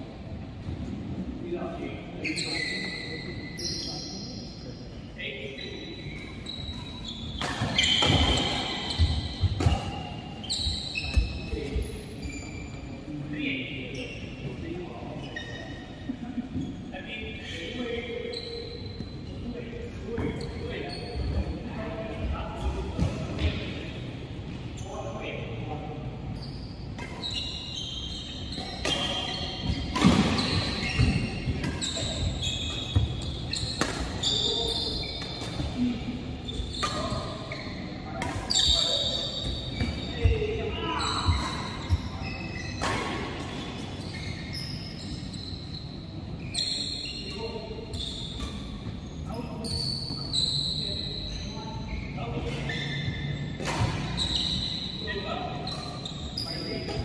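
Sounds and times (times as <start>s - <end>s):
shoes squeaking on court floor: 1.6s - 4.6s, 5.2s - 57.0s.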